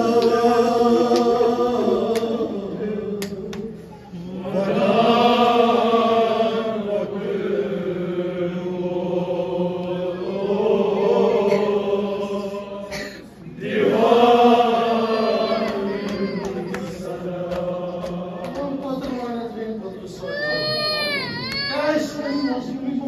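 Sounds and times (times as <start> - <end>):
person chanting a mourning lament: 0.0 - 23.0.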